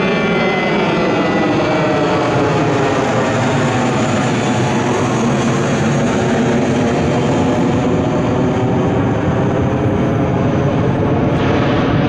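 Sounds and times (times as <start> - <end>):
jet airliner passing overhead: 0.0 - 12.0.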